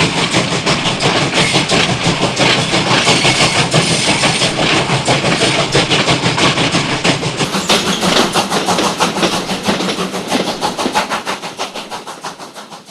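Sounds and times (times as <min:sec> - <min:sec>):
steam train chugging: 0:00.0 - 0:12.9.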